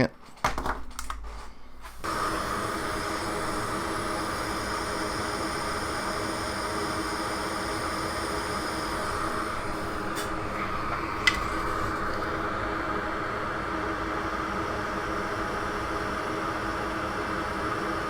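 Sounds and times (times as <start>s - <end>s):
hot air station blowing: 1.7s - 18.0s.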